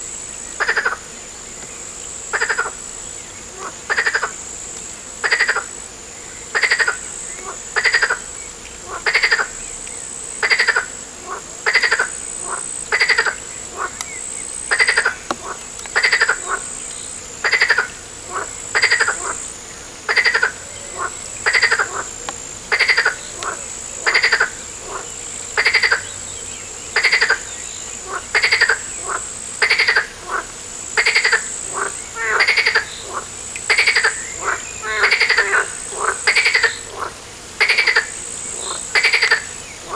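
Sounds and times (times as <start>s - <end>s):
frog croaking: 0.6s - 1.1s, 2.3s - 2.8s, 3.5s - 4.4s, 5.2s - 5.8s, 6.5s - 9.6s, 10.4s - 26.2s, 26.9s - 39.9s.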